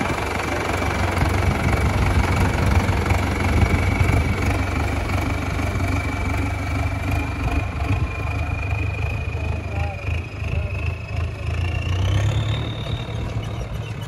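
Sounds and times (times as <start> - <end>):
tractor diesel engine rumbling: 0.0 - 14.0.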